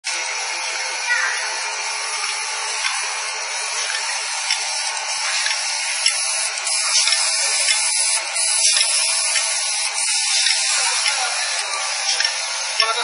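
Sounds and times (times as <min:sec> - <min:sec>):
labeling machine running: 0:00.0 - 0:13.0.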